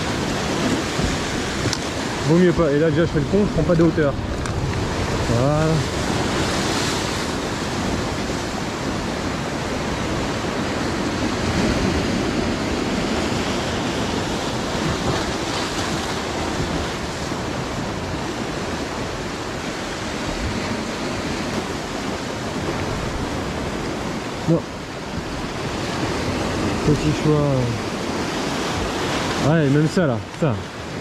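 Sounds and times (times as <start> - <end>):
sea surf washing over rocks: 0.0 - 31.0.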